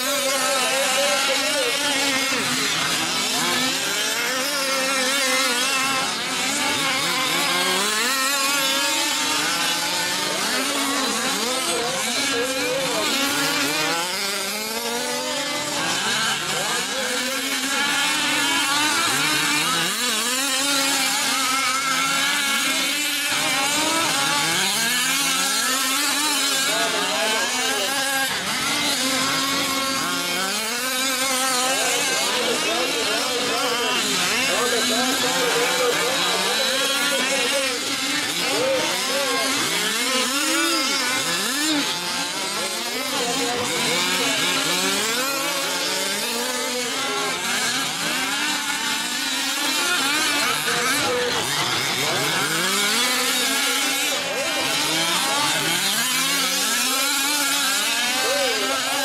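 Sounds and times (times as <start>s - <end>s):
small two-stroke engines revving: 0.0s - 59.0s.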